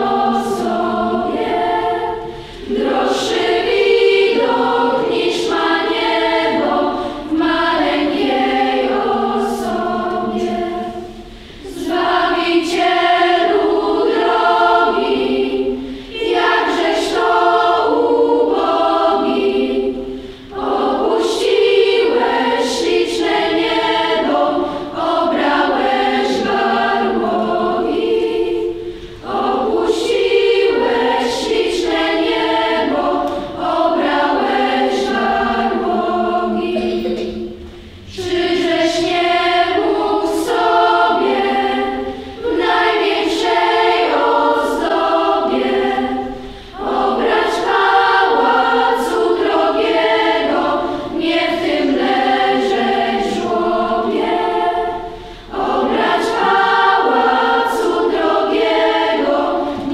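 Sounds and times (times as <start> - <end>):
children's choir singing a carol: 0.0 - 59.9.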